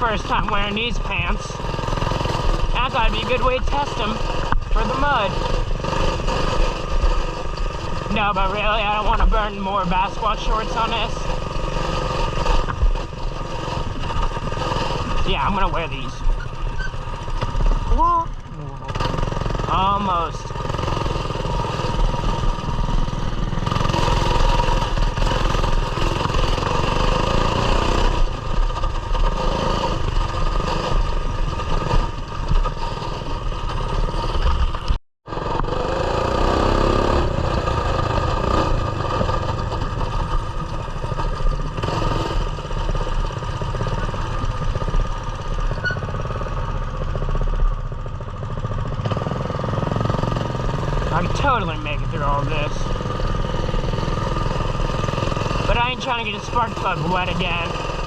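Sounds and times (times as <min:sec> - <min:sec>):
mini bike engine running: 0:00.0 - 0:58.0.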